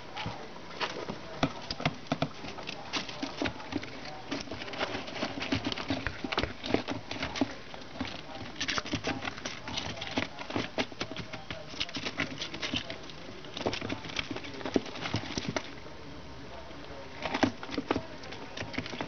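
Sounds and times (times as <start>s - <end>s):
squirrel scratching in bedding: 0.0s - 15.9s, 16.9s - 19.0s.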